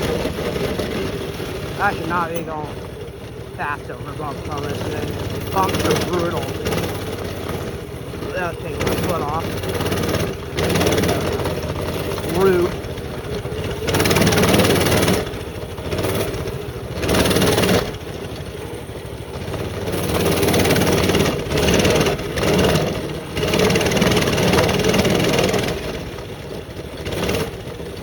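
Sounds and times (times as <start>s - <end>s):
mini bike engine revving: 0.0s - 28.0s.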